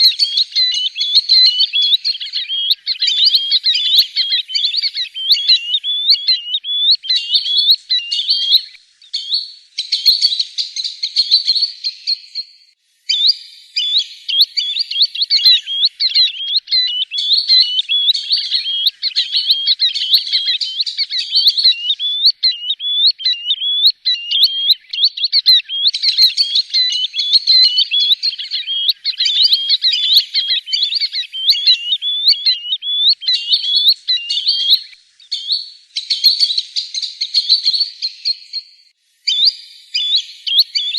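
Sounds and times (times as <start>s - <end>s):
sandpiper calling: 0.0s - 12.3s, 13.1s - 38.5s, 39.3s - 40.9s.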